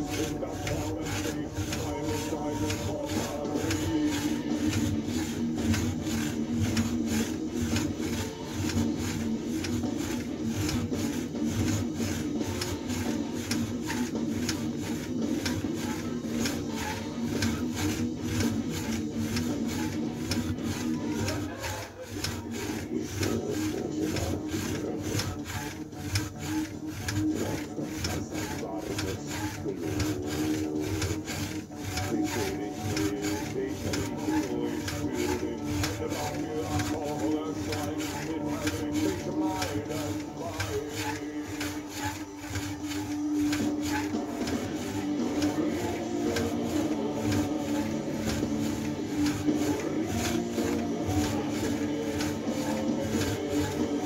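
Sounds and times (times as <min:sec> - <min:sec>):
spring exerciser scraping: 0:00.0 - 0:54.0.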